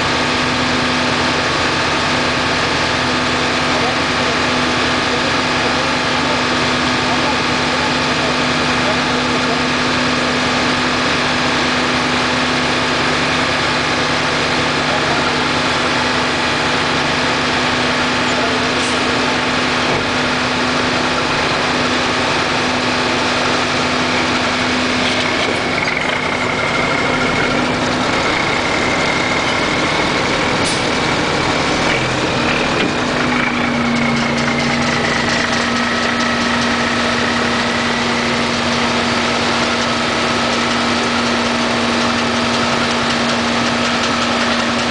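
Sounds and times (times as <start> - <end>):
truck engine humming: 0.0 - 44.9.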